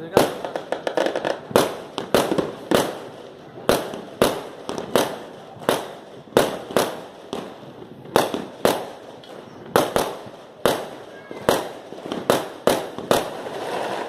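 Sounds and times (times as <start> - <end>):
fireworks bangs echoing: 0.0 - 14.0.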